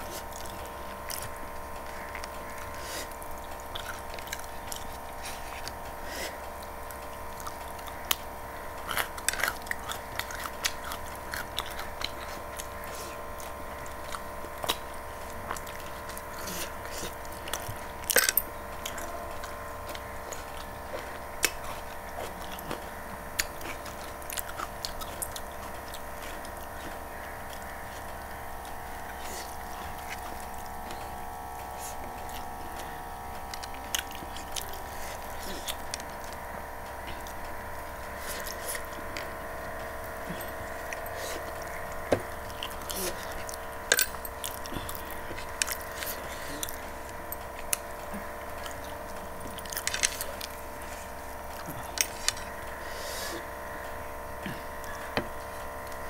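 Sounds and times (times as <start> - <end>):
chewing and wet mouth sounds: 0.0 - 56.0
steady background hum: 0.0 - 56.0.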